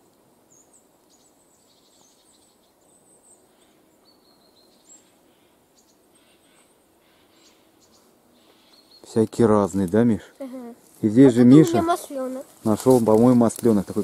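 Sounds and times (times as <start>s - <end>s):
background hiss: 0.0s - 14.0s
small birds chirping: 0.0s - 14.0s.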